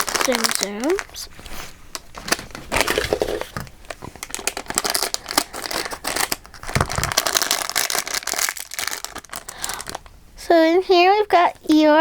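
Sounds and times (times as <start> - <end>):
packaging crinkling and tearing: 0.0 - 10.1.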